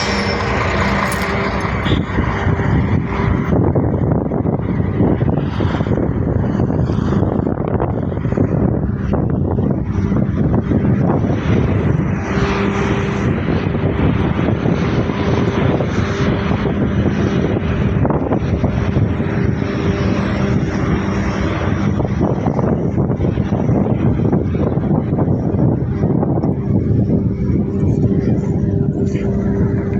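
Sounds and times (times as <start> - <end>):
engine droning: 0.0 - 29.9.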